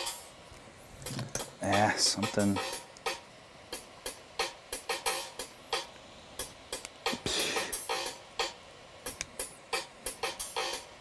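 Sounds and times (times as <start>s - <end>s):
electronic music with drum machine: 0.0s - 0.4s, 1.0s - 11.0s.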